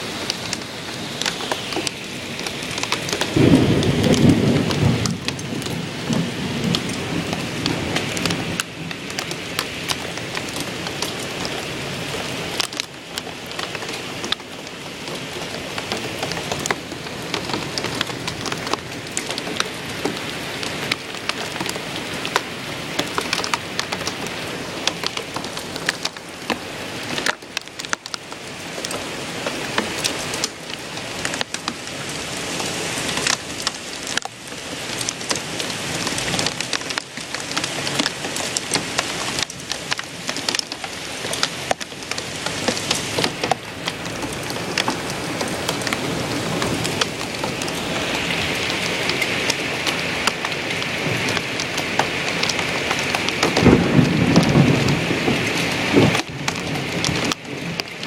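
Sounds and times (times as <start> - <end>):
rain pouring down: 0.0 - 58.0.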